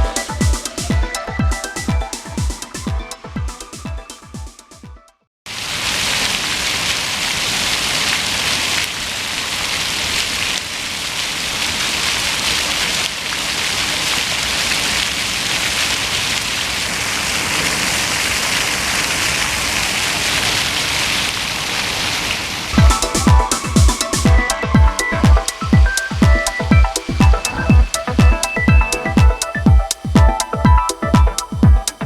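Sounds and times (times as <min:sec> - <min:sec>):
fountain water splashing: 0:05.5 - 0:32.0.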